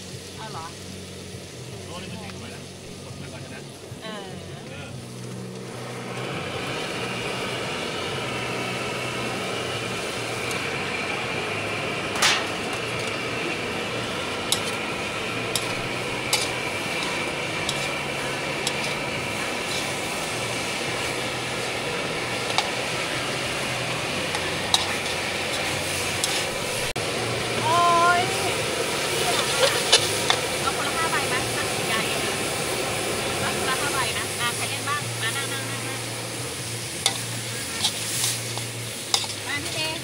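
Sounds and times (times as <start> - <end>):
cooking on camp stove: 0.0 - 40.0.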